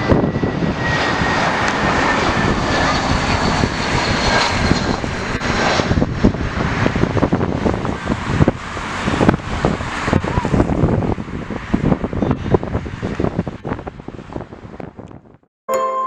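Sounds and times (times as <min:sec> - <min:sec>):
jet engines passing: 0:00.0 - 0:15.4
wind buffeting microphone: 0:00.0 - 0:15.5.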